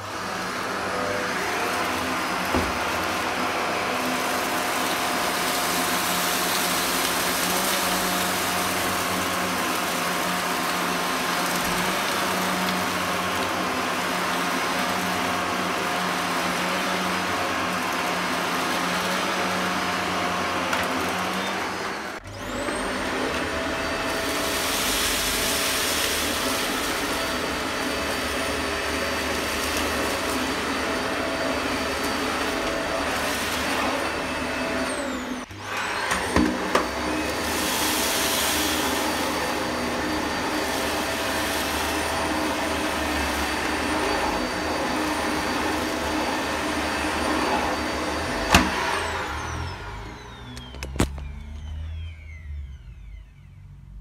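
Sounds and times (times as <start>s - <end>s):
vacuum cleaner on carpet: 0.0s - 54.0s.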